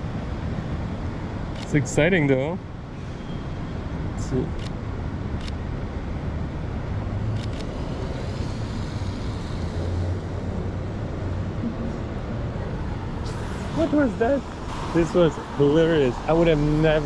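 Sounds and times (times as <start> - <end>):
passing cars hum: 0.0 - 17.0.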